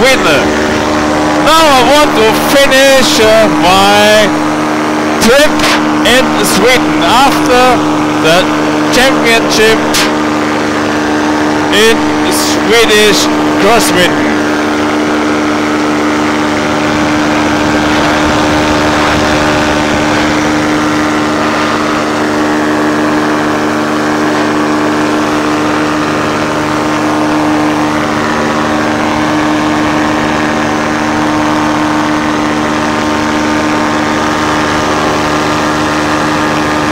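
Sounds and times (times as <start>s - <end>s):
paramotor engine drone: 0.0s - 36.9s.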